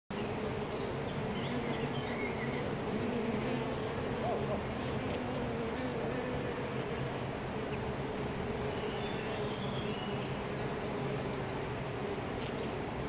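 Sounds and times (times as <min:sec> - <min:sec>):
honeybees buzzing: 0:00.1 - 0:13.0.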